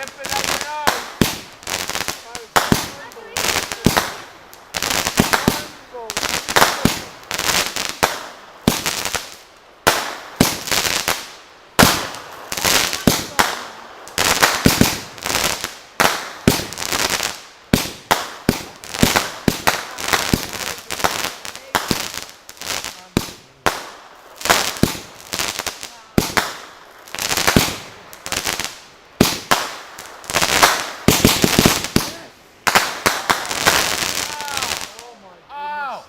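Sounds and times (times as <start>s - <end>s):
fireworks banging and crackling: 0.0s - 35.2s.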